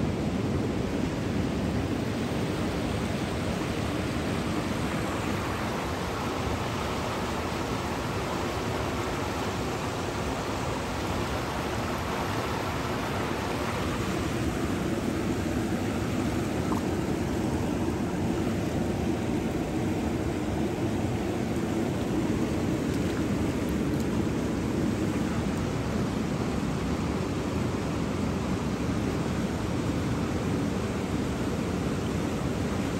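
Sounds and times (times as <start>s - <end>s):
river water rushing: 0.1s - 32.9s.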